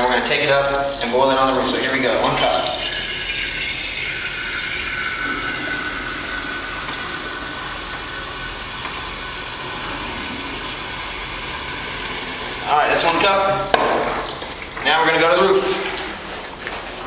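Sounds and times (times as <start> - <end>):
water running from a tap: 0.0 - 14.9.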